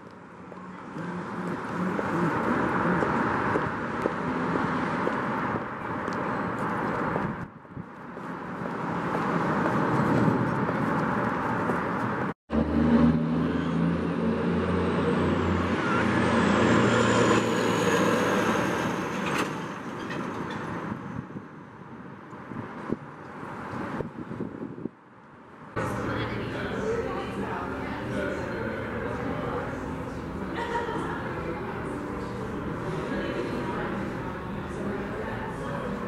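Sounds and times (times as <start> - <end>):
vehicles passing: 0.0 - 36.0.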